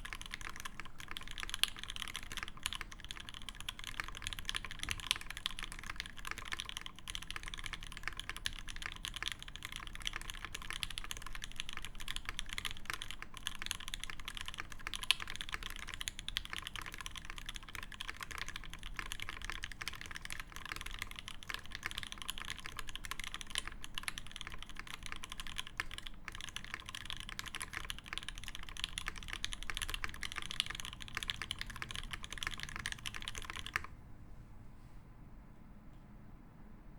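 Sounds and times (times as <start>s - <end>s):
mechanical keyboard typing: 0.0s - 34.0s.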